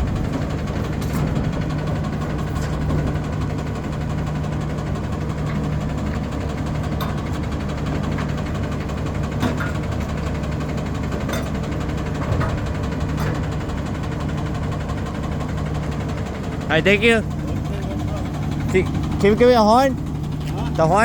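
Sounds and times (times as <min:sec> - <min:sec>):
garbage truck engine idling: 0:00.0 - 0:21.0.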